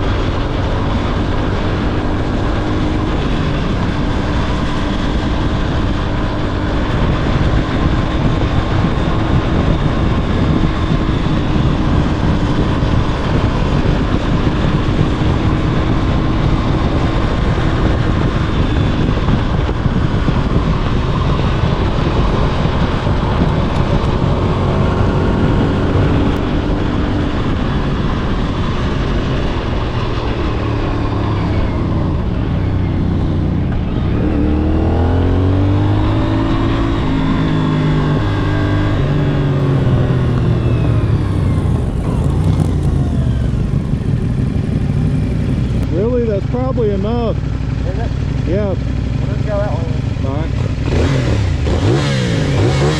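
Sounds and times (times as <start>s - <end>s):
motorcycle engine running: 0.0s - 52.9s
wind rush on microphone: 0.0s - 52.9s.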